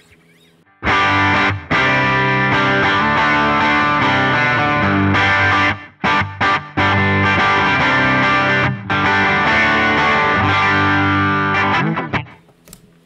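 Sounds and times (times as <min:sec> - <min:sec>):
electric guitar chords: 0:00.7 - 0:12.4.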